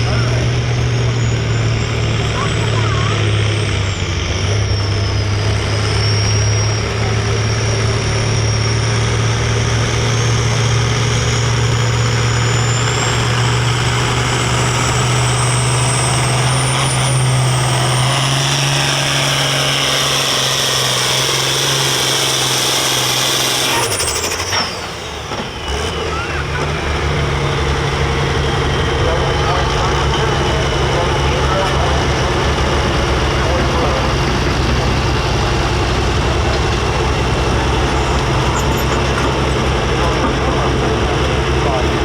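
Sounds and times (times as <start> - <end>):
diesel tractor engine under load: 0.0 - 42.0.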